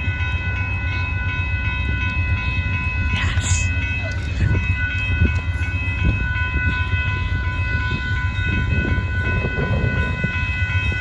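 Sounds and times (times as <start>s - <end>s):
low diesel train rumble: 0.0s - 11.0s.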